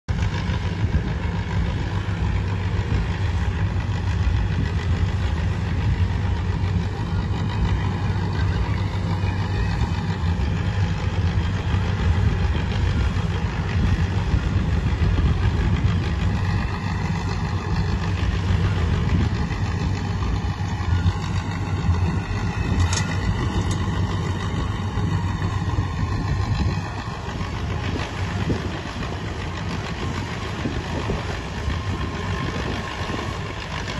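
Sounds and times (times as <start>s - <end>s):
tractor engine hum: 0.1s - 33.9s.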